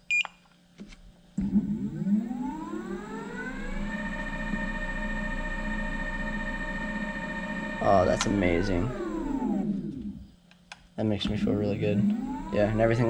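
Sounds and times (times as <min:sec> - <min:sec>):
electric motor whining: 0:01.4 - 0:10.3, 0:11.3 - 0:13.0.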